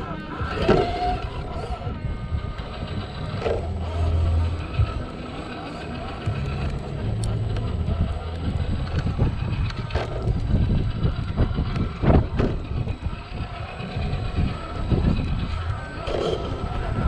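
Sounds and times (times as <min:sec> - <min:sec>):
tires knocking on rocks: 0:00.0 - 0:17.0
toy car motor rumble: 0:00.0 - 0:17.0.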